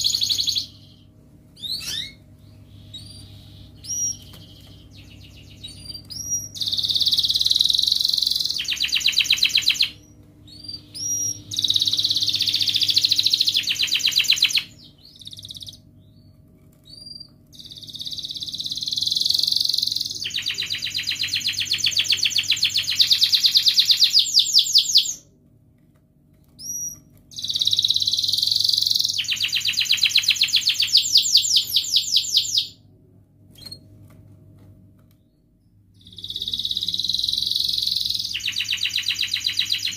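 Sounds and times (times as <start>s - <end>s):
canary singing: 0.0s - 25.3s, 26.5s - 32.8s, 35.2s - 39.9s.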